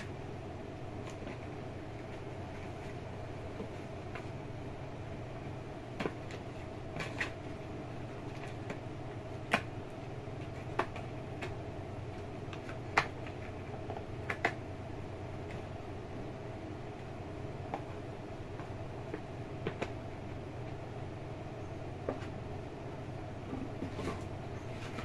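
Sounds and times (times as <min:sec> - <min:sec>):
electric fan humming: 0:00.0 - 0:25.0.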